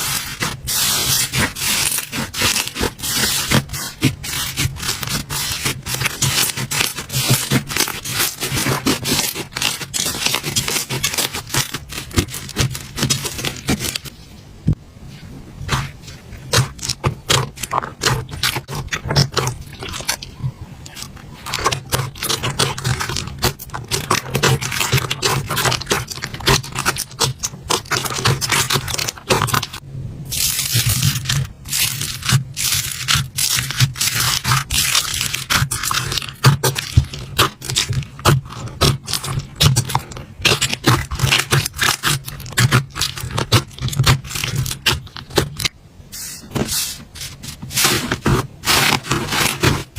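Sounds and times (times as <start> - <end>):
slime crackling and popping: 0.0 - 14.1, 15.7 - 45.8.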